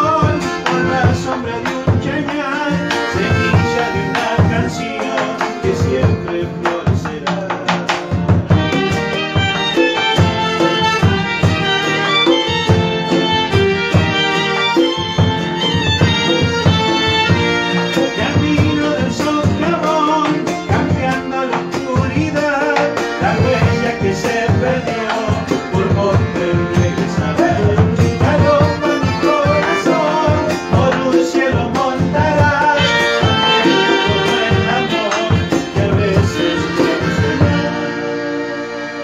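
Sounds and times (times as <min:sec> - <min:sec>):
drum strokes: 0:00.0 - 0:38.0
guitar: 0:00.0 - 0:39.0
violin and accordion melody: 0:00.0 - 0:39.0.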